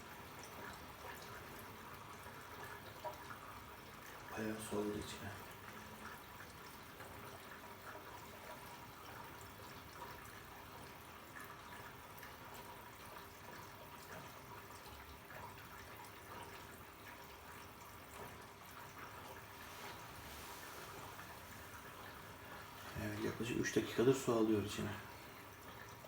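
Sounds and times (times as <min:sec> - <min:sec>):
water running into washing machine: 0:00.0 - 0:26.0.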